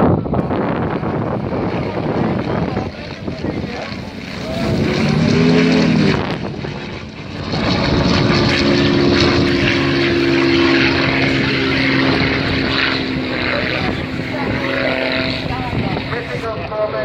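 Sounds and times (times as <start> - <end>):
propeller plane engines flying past: 0.0 - 17.0.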